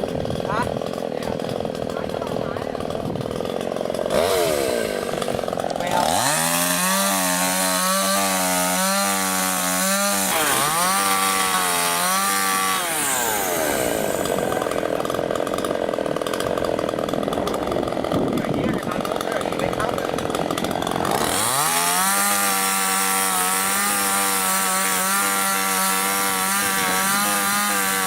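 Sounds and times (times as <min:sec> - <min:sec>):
chainsaw revving and idling: 0:00.0 - 0:28.0.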